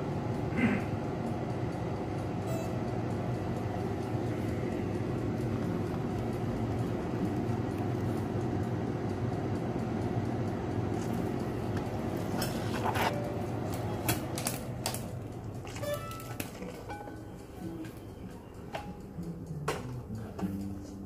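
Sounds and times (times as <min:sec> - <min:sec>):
convection oven humming: 0:00.0 - 0:21.0.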